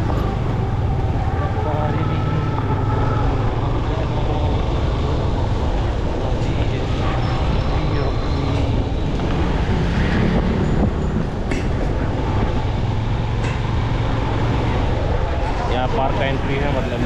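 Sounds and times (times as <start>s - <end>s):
motorcycle running: 0.0s - 17.0s
road noise: 0.0s - 17.0s
wind over microphone: 0.0s - 17.0s.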